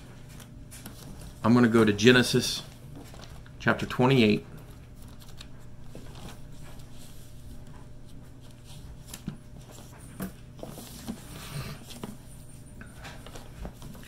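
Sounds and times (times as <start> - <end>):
paper pages rustling: 0.0 - 9.9, 10.6 - 12.2, 13.1 - 14.0
steady low hum: 0.0 - 14.0.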